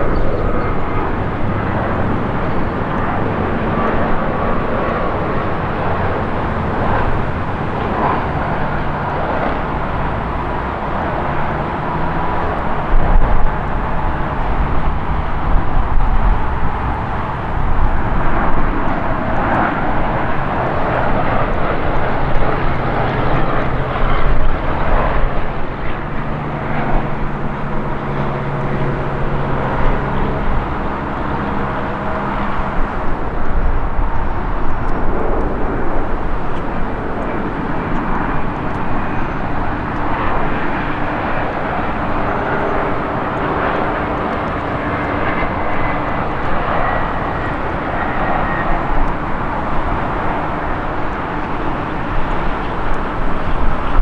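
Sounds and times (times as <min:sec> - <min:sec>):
faint high jet engine whine: 0:00.0 - 0:54.0
jet engines droning: 0:00.0 - 0:54.0.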